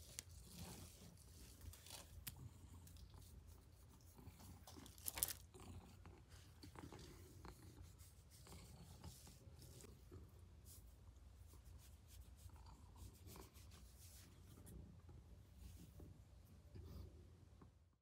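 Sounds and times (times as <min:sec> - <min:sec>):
hand scratching cat fur: 0:00.0 - 0:16.2.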